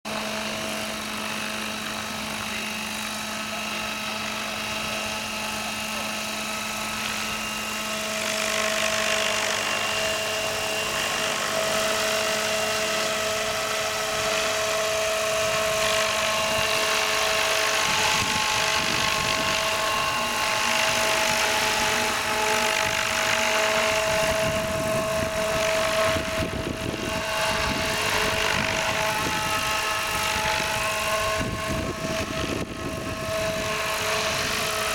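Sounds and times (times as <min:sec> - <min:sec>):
model helicopter hovering: 0:00.1 - 0:34.9.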